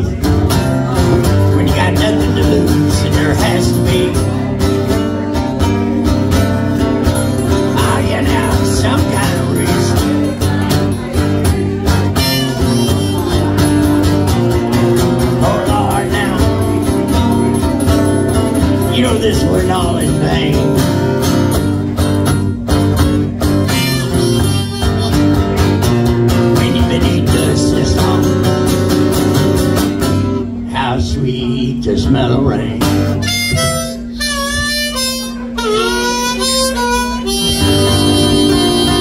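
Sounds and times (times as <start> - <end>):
acoustic guitars strumming: 0.0 - 39.0
harmonica melody: 0.2 - 30.3, 32.9 - 39.0.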